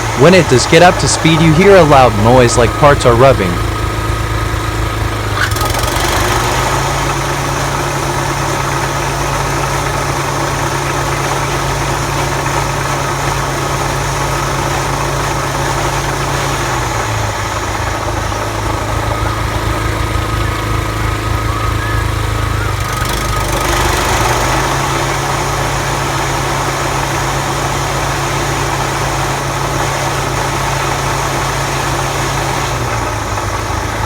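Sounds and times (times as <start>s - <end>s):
lawn mower humming: 0.0s - 34.0s.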